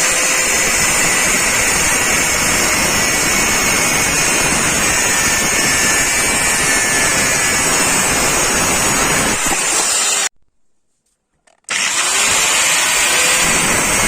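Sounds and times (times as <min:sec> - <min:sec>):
power tool grinding steel: 0:00.0 - 0:10.3, 0:11.7 - 0:14.0.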